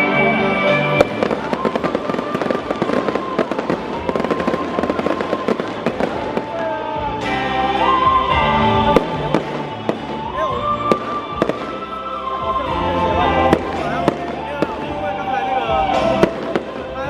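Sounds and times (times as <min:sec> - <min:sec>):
fireworks crackling: 0:00.0 - 0:17.0
music: 0:00.0 - 0:17.0.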